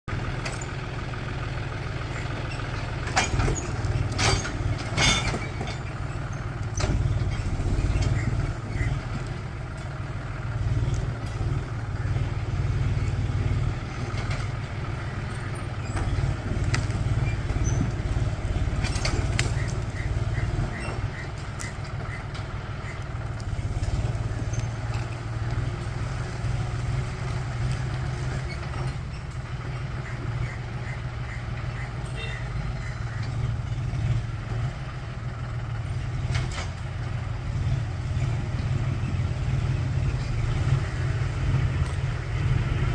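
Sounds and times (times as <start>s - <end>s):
tractor engine rumbling: 0.0s - 42.9s.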